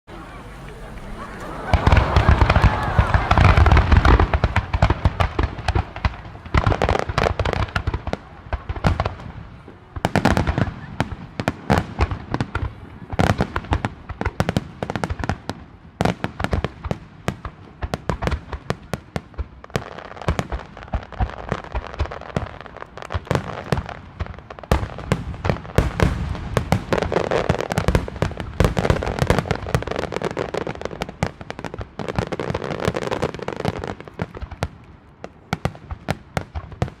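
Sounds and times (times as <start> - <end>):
fireworks bangs: 0.1 - 37.0.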